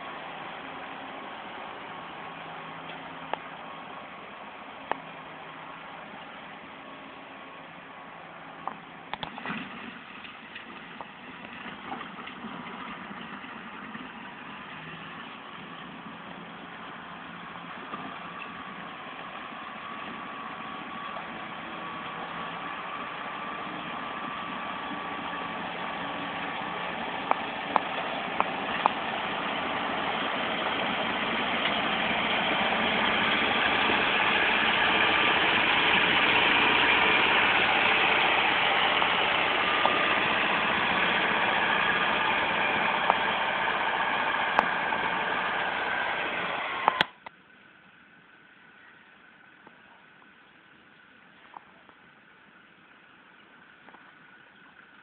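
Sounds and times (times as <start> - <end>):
diesel engine running: 0.0 - 47.2.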